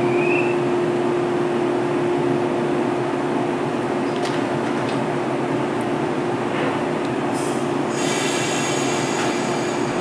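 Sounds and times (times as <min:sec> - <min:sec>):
train equipment hum: 0:00.0 - 0:10.0.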